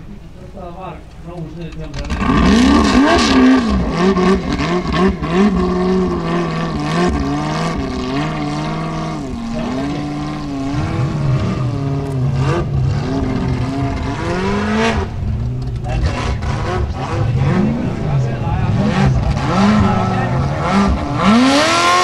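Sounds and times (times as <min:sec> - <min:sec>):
buggy engine revving hard: 0:01.9 - 0:22.0.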